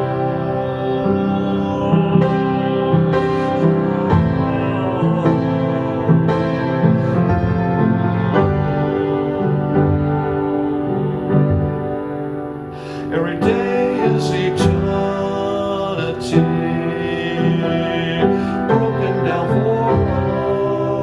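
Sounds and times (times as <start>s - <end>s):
slow piano song: 0.0s - 21.0s.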